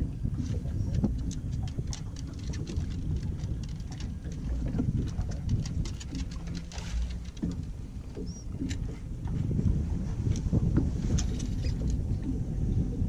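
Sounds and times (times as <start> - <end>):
waves slapping boat hull: 0.0 - 13.0
wind rumble on microphone: 0.0 - 13.0.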